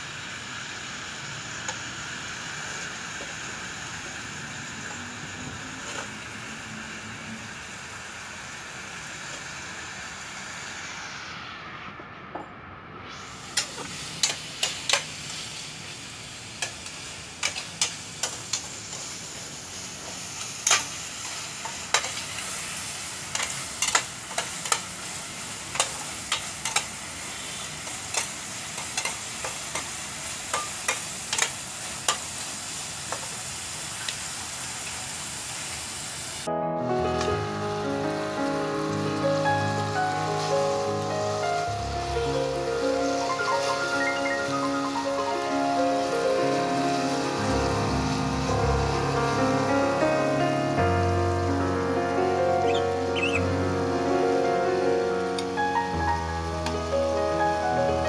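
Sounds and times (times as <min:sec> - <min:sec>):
meat sizzling in a frying pan: 0:00.0 - 0:11.2, 0:13.2 - 0:36.4, 0:37.4 - 0:54.0.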